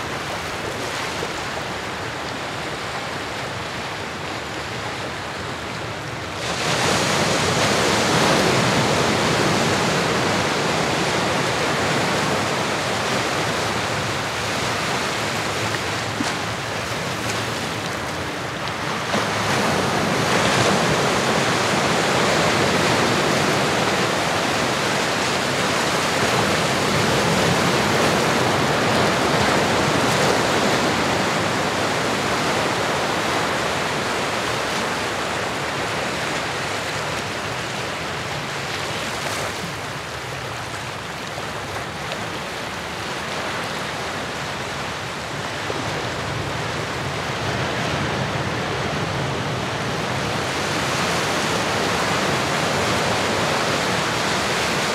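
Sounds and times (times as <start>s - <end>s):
ocean waves washing in: 0.0s - 54.9s.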